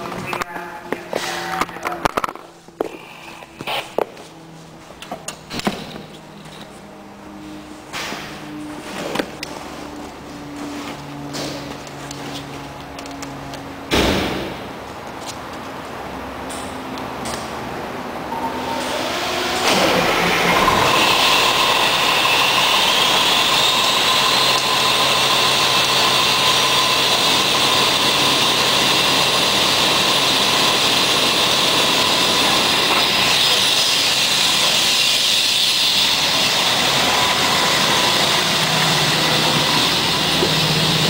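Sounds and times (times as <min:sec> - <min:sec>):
fire engine running: 0:00.0 - 0:41.0
high whine: 0:00.0 - 0:41.0.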